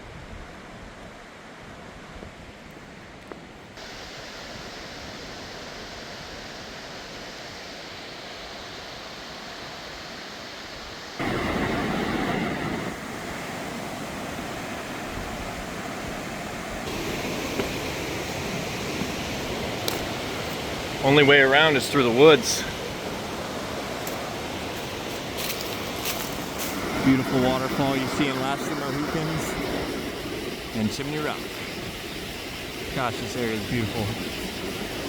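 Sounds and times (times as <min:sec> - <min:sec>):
river water rushing: 0:03.8 - 0:33.8.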